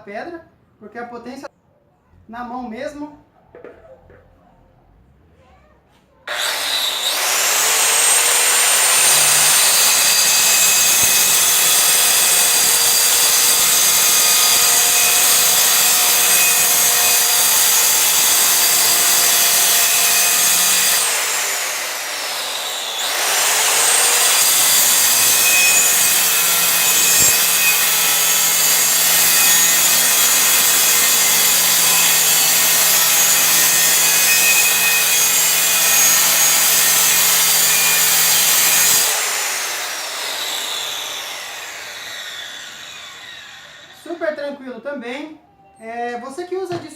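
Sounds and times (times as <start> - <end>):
electric stone cutter whining: 6.3 - 44.2.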